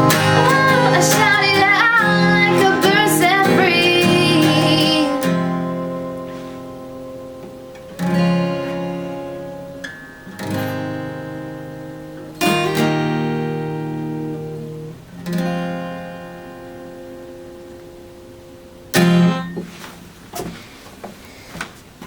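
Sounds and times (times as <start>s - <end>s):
acoustic guitar strumming chords: 0.0s - 20.3s.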